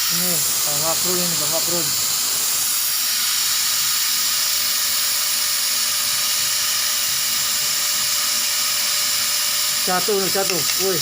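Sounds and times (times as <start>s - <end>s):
laser cutting machine hiss: 0.0s - 11.0s.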